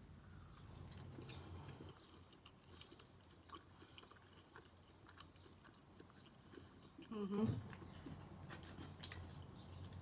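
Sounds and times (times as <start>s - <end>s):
close-up chewing: 0.4s - 10.0s.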